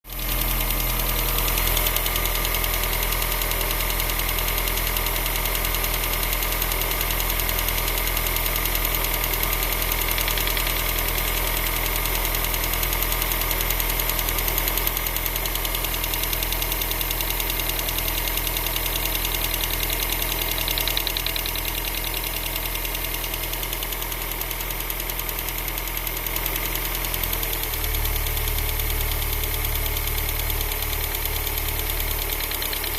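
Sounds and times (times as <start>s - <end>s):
engine idling with ticking: 0.1s - 32.9s.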